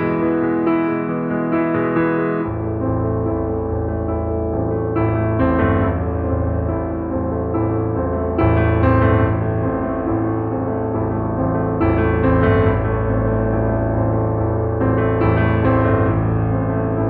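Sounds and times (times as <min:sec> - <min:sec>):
steady bass: 0:02.5 - 0:17.0.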